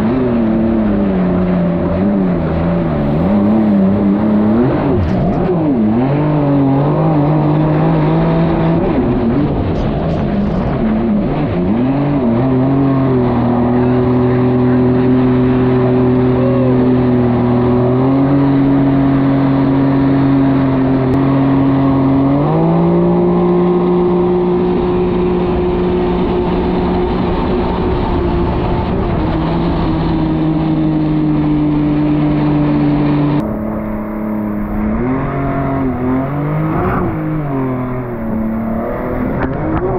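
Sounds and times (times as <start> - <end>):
jet ski engine running: 0.0 - 39.9.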